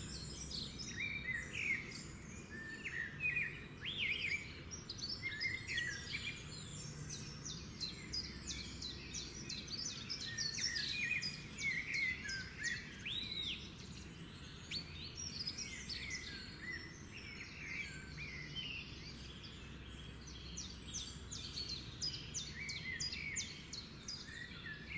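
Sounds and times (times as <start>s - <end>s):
songbirds chirping and singing: 0.0s - 24.9s.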